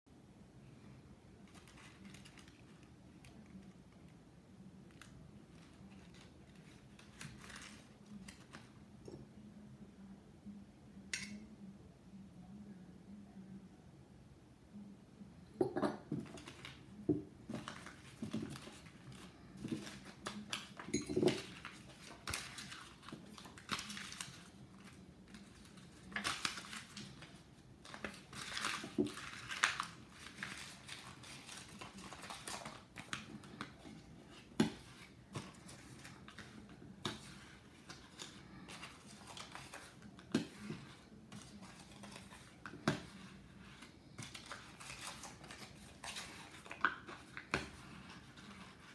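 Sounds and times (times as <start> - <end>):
paper rustling and crinkling: 1.3 - 9.0, 16.1 - 48.9.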